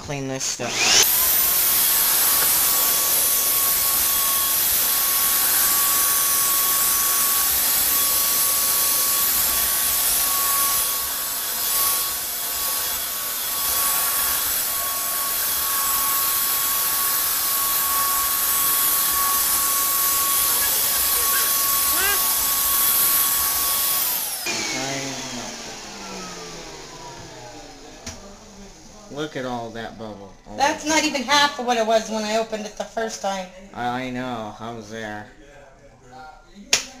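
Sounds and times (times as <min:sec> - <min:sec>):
vacuum cleaner whining: 0:00.1 - 0:33.2.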